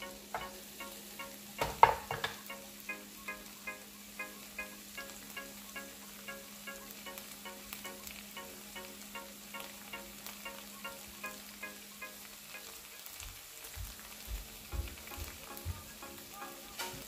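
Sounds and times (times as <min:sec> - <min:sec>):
food sizzling in oil: 0:00.0 - 0:17.0
light background music: 0:00.0 - 0:17.0.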